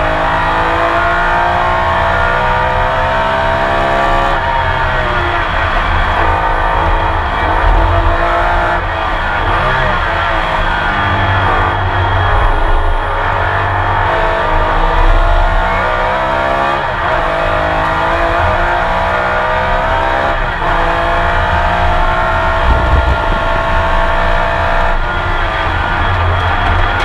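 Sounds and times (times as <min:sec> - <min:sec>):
racing engine accelerating: 0:00.0 - 0:27.0.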